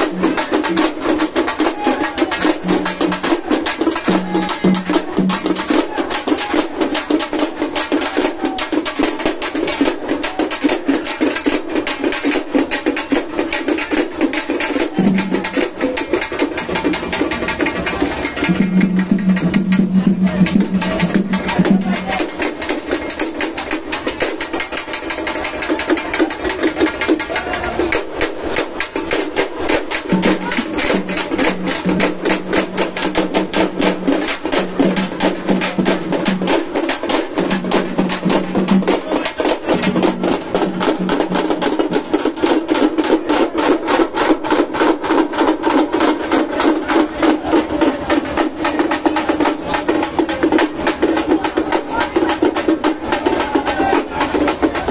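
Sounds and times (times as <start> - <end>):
fast drum beat: 0.0 - 54.9.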